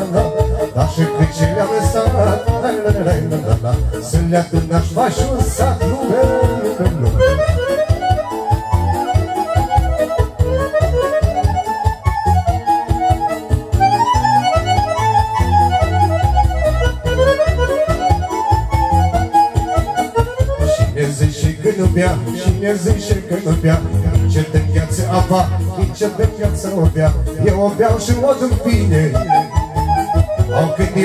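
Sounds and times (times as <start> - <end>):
accordion quick runs: 0.0 - 31.0.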